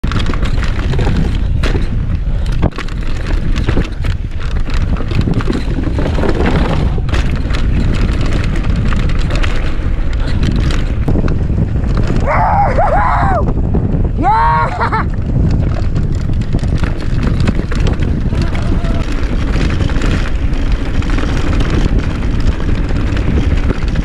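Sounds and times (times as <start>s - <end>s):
bike rattling and knocking: 0.0s - 24.0s
wind buffeting microphone: 0.0s - 24.0s.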